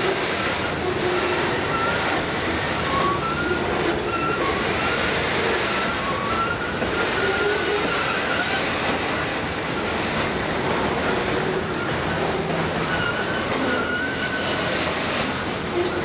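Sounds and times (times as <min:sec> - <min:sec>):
wheel squeal: 0:00.0 - 0:10.4, 0:11.0 - 0:16.0
train wheels rumbling on rails: 0:00.0 - 0:16.0.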